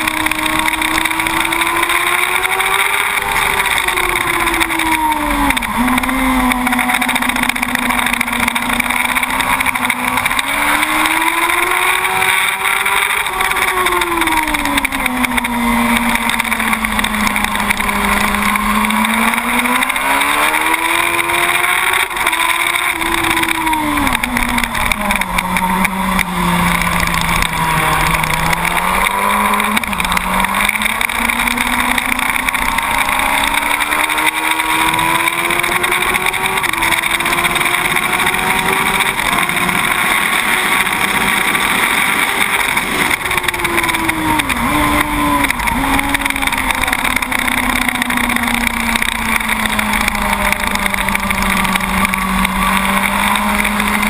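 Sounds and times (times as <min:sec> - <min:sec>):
sport bike engine revving: 0:00.0 - 0:54.0.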